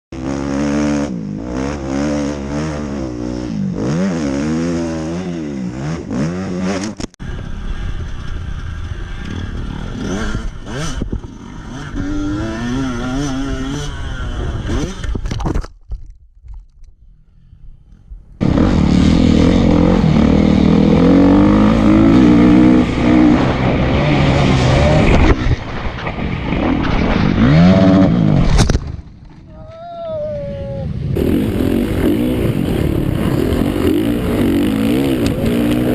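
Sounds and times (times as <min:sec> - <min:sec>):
dirt bike engines revving: 0:00.2 - 0:15.2, 0:18.4 - 0:28.6, 0:30.2 - 0:35.9.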